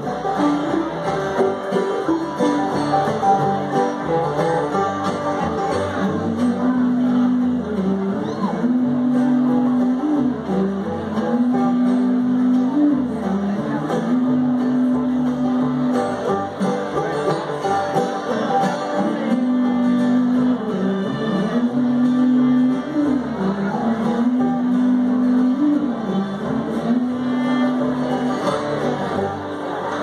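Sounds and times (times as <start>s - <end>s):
banjo: 0.0s - 30.0s
fiddle sliding long notes: 0.0s - 30.0s
strummed acoustic guitar: 0.0s - 30.0s
upright bass: 0.0s - 30.0s.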